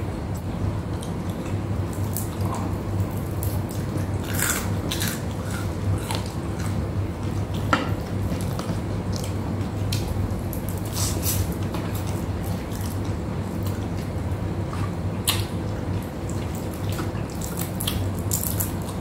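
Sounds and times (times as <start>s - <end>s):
steady low hum: 0.0s - 19.0s
chewing crispy food: 0.9s - 19.0s.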